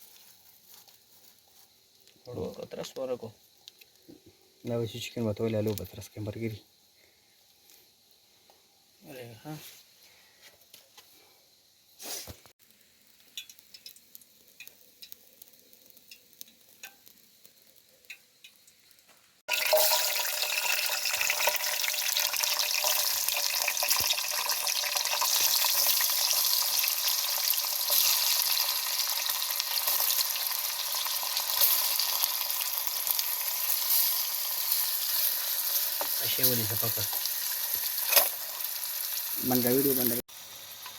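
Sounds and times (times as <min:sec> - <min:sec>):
chicken sizzling in hot oil: 0:00.0 - 0:06.6, 0:11.5 - 0:40.9.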